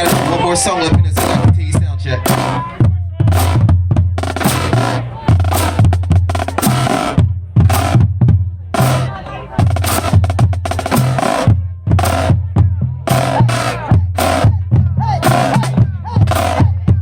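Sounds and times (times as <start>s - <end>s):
snare drums and rolls: 0.0s - 8.1s, 8.8s - 12.5s, 13.1s - 14.6s, 15.2s - 16.8s
bass drums: 0.0s - 17.0s.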